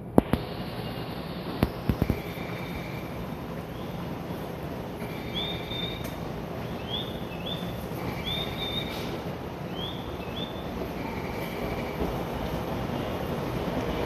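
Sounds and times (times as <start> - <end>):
station and train rumble: 0.0 - 14.0.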